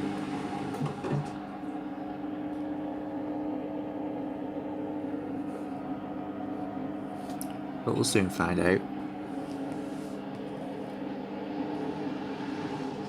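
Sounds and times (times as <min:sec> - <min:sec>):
drain pump humming: 0:00.0 - 0:13.0.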